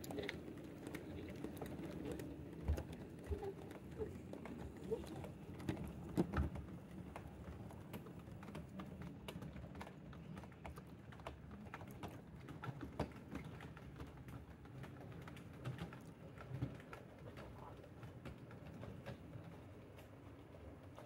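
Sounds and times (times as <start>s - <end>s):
wheels clicking over rail joints: 0.0s - 21.0s.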